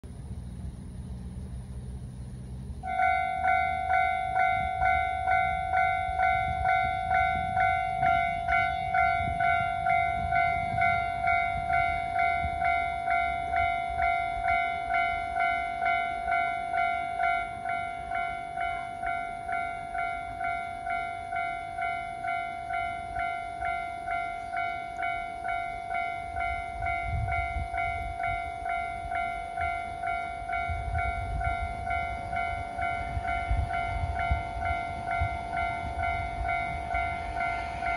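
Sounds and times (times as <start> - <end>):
level crossing warning bell: 2.8 - 37.9.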